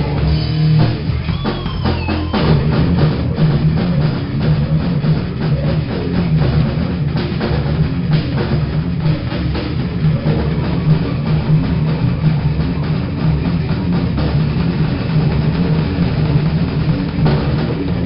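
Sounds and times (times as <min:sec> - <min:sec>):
distorted electric guitar: 0:00.0 - 0:18.0
drum kit with heavy bass drum: 0:00.0 - 0:18.0.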